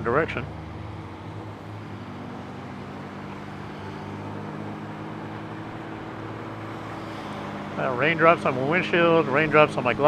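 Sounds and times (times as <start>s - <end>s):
motorcycle engine hum: 0.0s - 10.0s.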